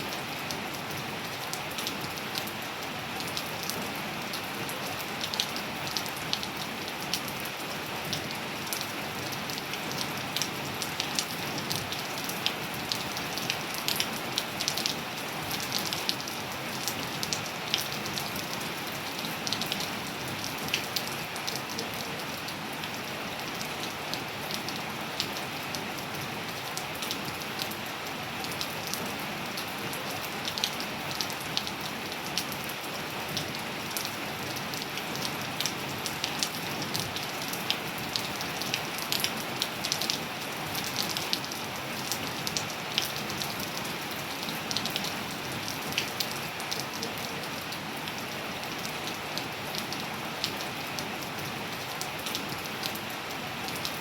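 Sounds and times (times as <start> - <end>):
rain pattering on hard surfaces: 0.0 - 54.0.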